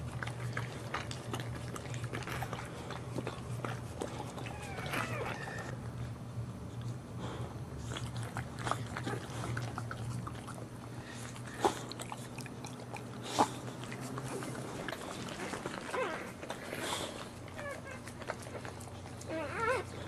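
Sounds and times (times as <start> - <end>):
dog licking puppies: 0.0 - 5.9, 7.8 - 20.0
steady low hum: 0.0 - 20.0.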